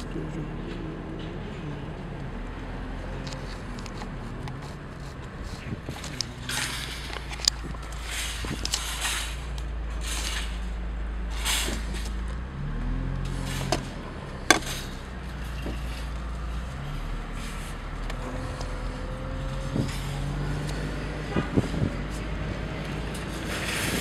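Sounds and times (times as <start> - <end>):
car engine and road hum: 0.0 - 24.0.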